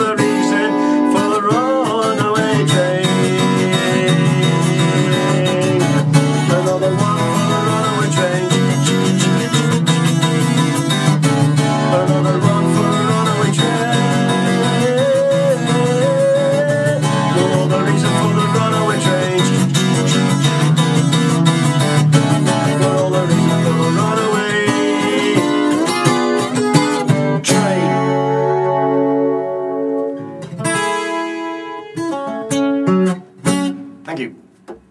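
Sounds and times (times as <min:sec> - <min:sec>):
acoustic guitar strumming: 0:00.0 - 0:34.9
guitar notes plucked: 0:00.0 - 0:34.9.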